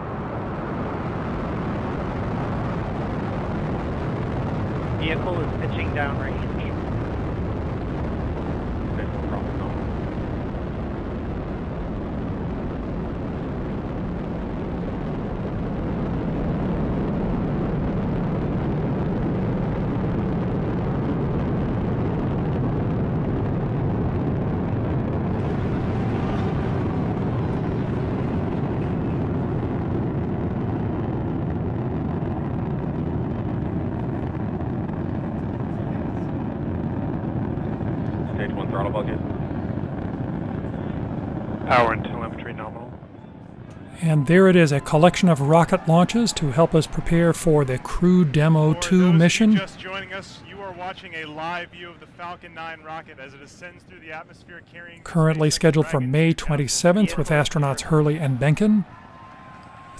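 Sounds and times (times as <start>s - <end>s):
rocket engines roaring: 0.0s - 59.9s.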